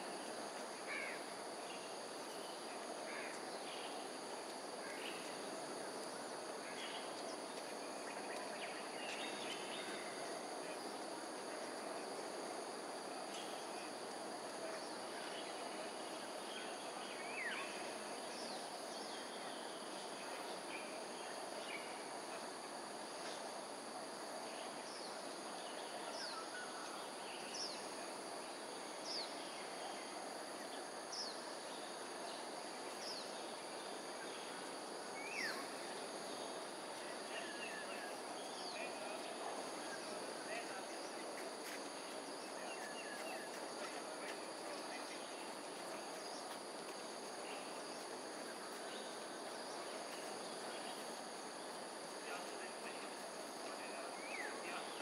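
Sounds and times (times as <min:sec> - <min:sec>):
background hiss: 0:00.0 - 0:55.0
insects droning: 0:00.0 - 0:55.0.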